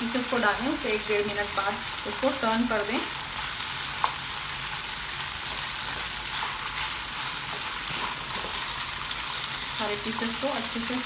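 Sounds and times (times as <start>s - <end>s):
chicken sizzling in hot oil: 0.0s - 11.0s
wooden spatula turning food: 2.1s - 11.0s.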